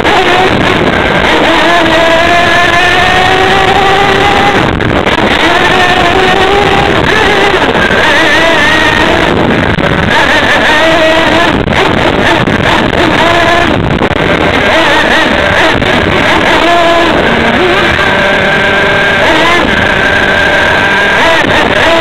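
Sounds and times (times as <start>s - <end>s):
small engine revving: 0.0s - 22.0s
wind rushing over microphone: 0.0s - 22.0s.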